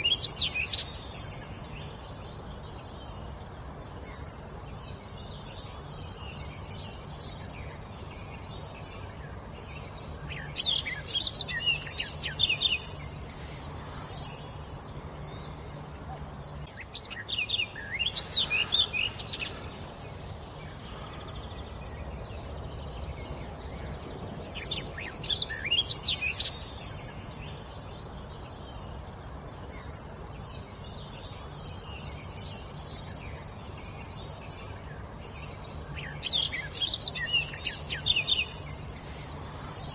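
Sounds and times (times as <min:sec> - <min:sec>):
steady background noise: 0:00.0 - 0:39.9.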